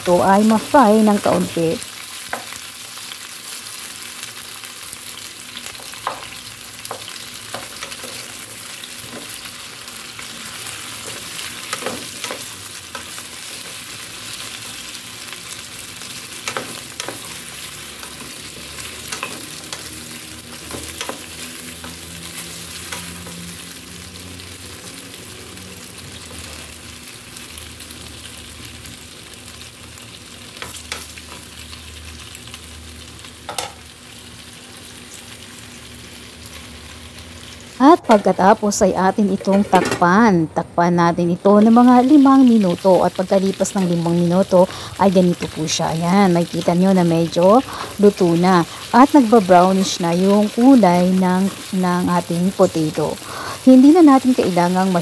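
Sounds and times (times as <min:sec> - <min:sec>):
potatoes sizzling in oil: 0:00.0 - 0:40.3, 0:40.9 - 0:55.0.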